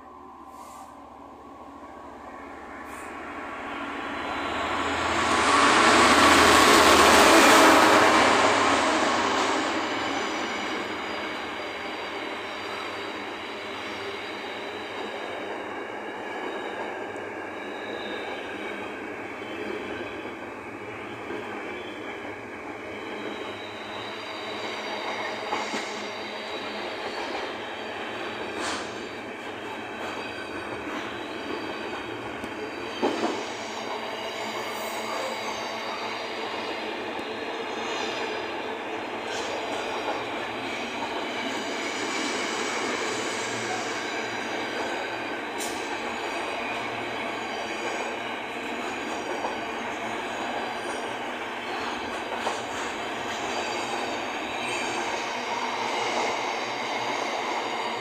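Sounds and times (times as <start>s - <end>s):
rumble of train wheels on rail: 0.0s - 58.0s
high squealing from wheels: 2.7s - 58.0s.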